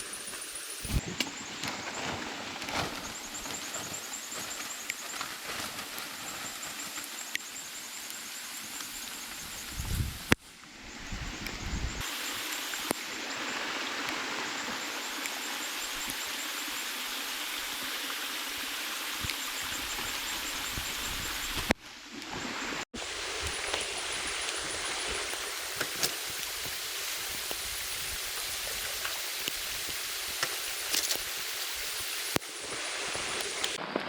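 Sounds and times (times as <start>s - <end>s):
rain and running water: 1.9s - 34.0s.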